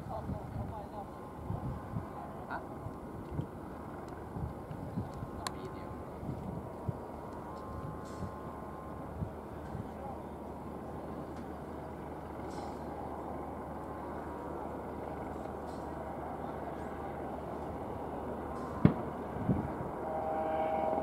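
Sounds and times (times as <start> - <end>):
helicopter rotor and turbine: 0.0 - 21.0
steady whine: 0.0 - 21.0.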